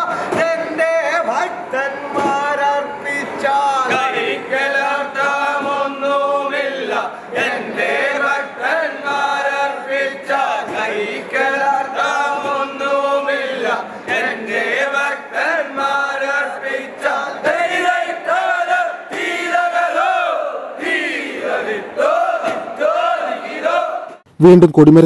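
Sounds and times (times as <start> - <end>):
men singing a chant: 0.0 - 24.2.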